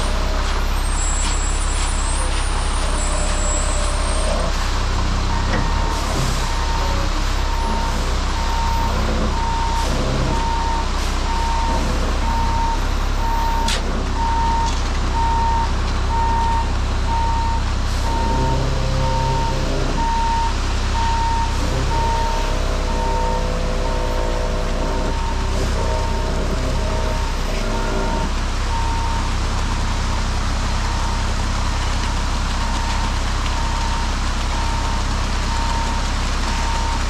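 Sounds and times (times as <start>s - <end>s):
diesel engine running: 0.0s - 37.0s
truck reversing alarm beeping: 0.0s - 37.0s.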